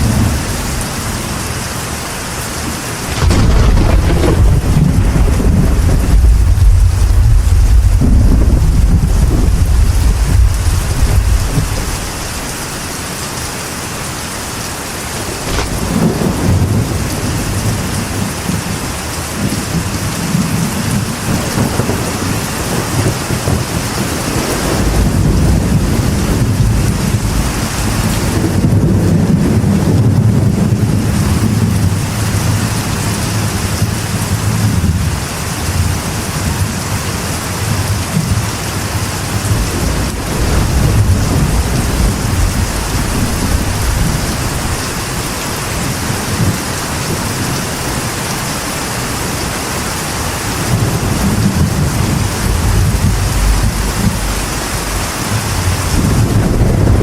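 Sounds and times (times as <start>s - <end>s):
thunder rumbling: 0.0s - 13.0s, 14.8s - 57.0s
rain drumming on a metal roof: 0.0s - 57.0s.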